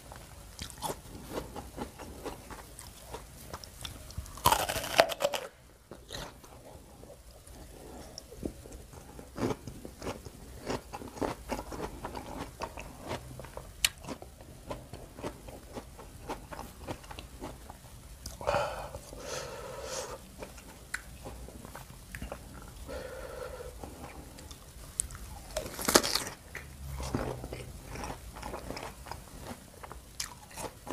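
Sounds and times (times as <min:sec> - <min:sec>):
crunching and chewing apple: 0:00.0 - 0:19.2, 0:20.2 - 0:22.8, 0:23.8 - 0:30.9.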